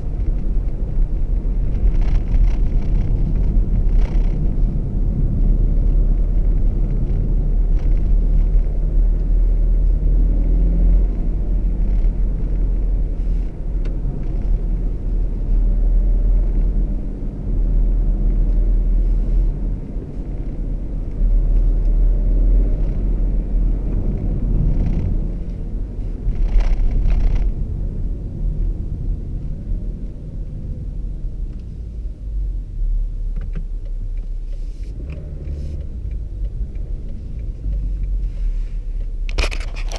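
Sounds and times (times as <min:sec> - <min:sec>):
diesel car engine accelerating: 0:00.0 - 0:39.9
road and wind noise: 0:00.0 - 0:39.9.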